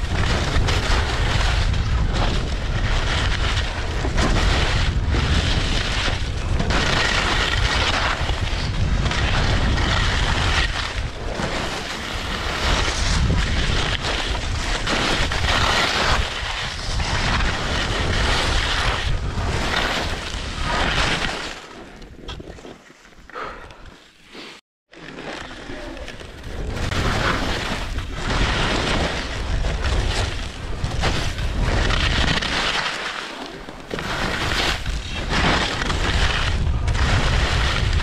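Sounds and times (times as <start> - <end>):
wind rumble on microphone: 0.0 - 21.3, 26.0 - 32.6, 33.7 - 38.0
skis scraping icy snow: 0.0 - 23.2, 23.9 - 38.0.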